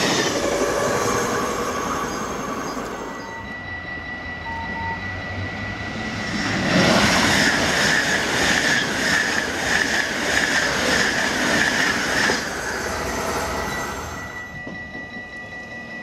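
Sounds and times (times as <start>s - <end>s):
high-speed train passing: 0.0s - 16.0s.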